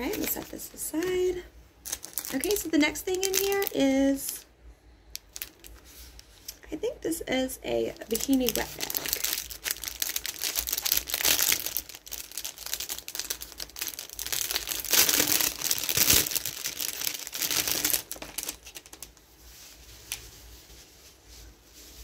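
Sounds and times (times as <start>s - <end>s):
plastic packaging crinkling: 0.0s - 4.5s, 5.1s - 6.6s, 7.8s - 20.5s.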